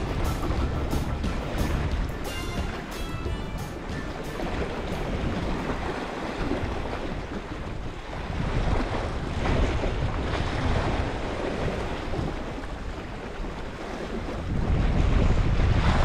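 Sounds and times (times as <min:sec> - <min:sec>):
waves washing against rocks: 0:00.0 - 0:16.0
wind rumbling on microphone: 0:00.0 - 0:16.0.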